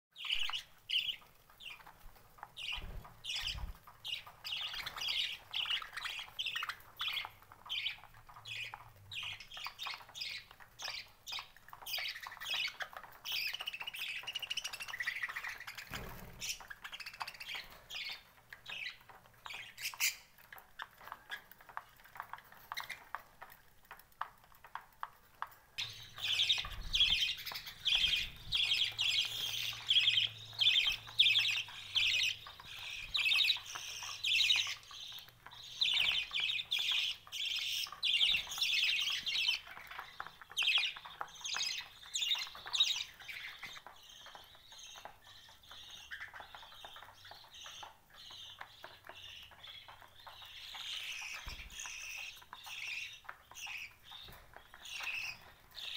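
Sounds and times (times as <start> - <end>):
budgerigars chattering and chirping: 0.2 - 23.2, 25.8 - 55.9.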